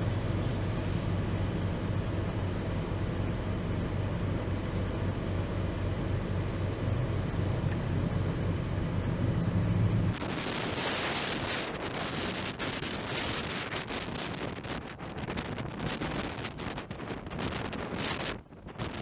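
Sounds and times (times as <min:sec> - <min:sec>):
strong wind blasting microphone: 0:00.0 - 0:19.0.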